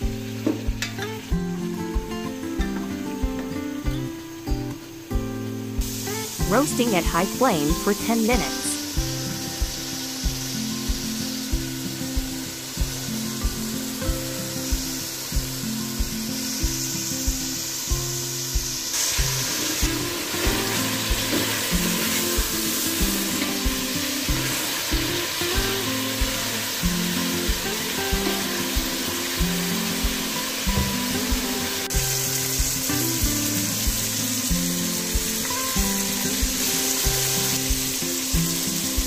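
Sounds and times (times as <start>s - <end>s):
background music with steady beat: 0.0s - 39.0s
meat sizzling in hot oil: 0.0s - 39.0s.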